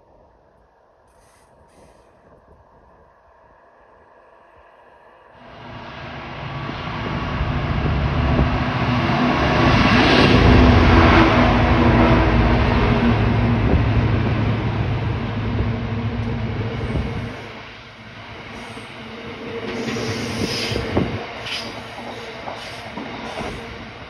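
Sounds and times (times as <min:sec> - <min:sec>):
diesel locomotive engine hum: 0:00.0 - 0:24.0
wheels rumbling on rail: 0:00.0 - 0:24.0.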